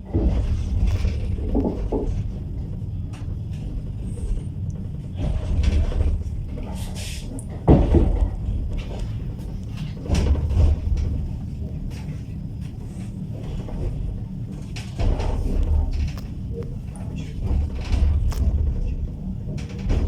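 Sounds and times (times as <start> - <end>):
clunks and rattles: 0.0 - 20.0
train carriage low rumble: 0.0 - 20.0.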